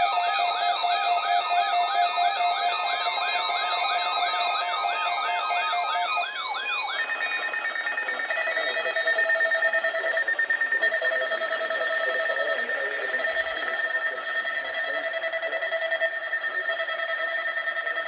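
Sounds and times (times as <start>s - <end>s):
rising siren-like alarm sweep: 0.0s - 18.0s
steady alarm tones: 0.0s - 18.0s
steady high tone: 0.0s - 18.0s
rapid beeping: 2.4s - 18.0s.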